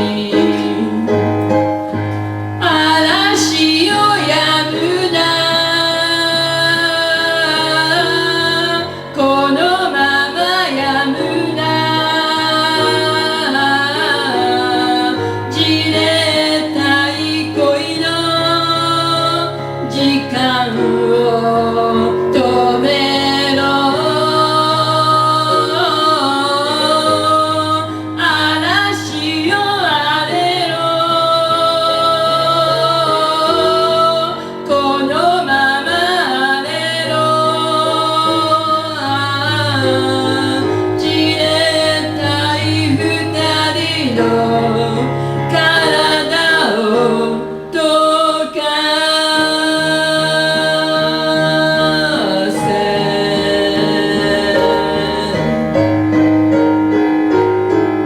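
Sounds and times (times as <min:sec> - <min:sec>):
woman singing: 0:00.0 - 0:01.6, 0:02.6 - 0:55.7
instrumental accompaniment: 0:00.0 - 0:58.0.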